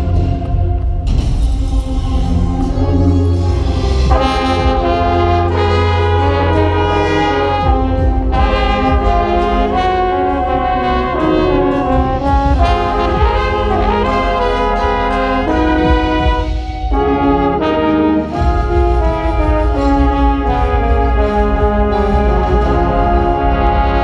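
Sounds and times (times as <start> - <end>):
brass wind ensemble chords: 0.0 - 24.0
deep low rumble: 0.0 - 24.0.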